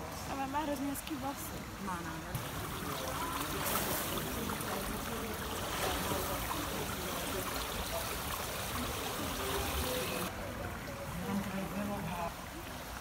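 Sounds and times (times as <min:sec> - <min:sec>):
water splashing in a pool: 0:00.0 - 0:13.0.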